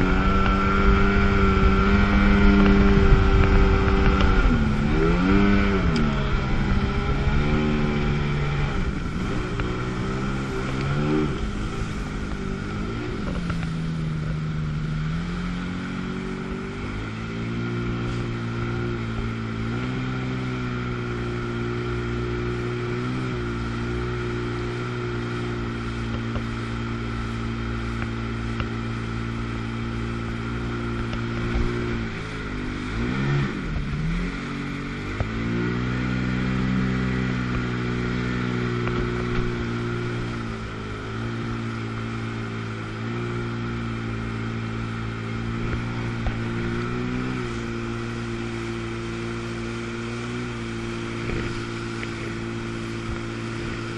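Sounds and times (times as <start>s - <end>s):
jet ski engine running: 0.0s - 53.9s.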